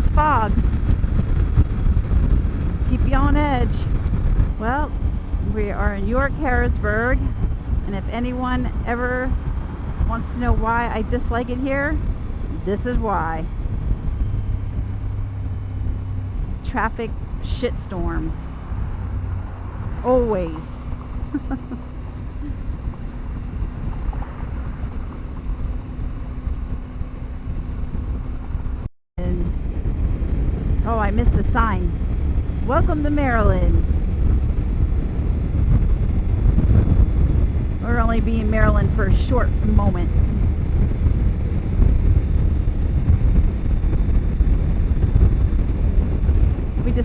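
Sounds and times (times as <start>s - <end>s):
motorcycle engine hum: 0.0s - 47.0s
wind buffeting microphone: 0.0s - 47.0s.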